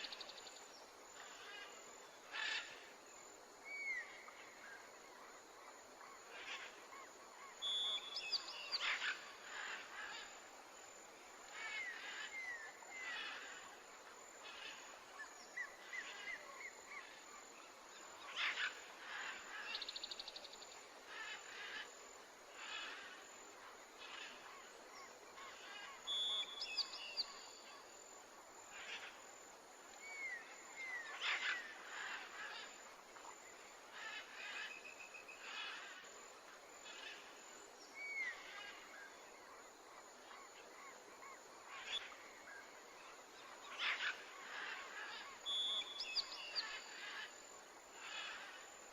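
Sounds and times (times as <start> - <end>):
faint steady background hiss: 0.0 - 48.9.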